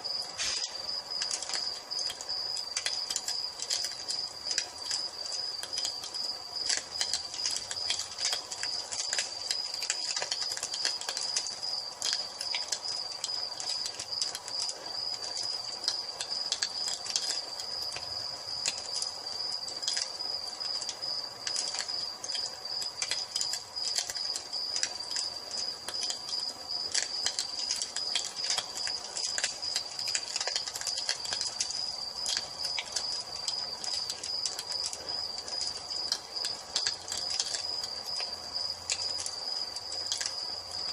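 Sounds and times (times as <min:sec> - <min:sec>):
crickets trilling: 0:00.0 - 0:40.9
wood fire crackling and popping: 0:00.0 - 0:40.9.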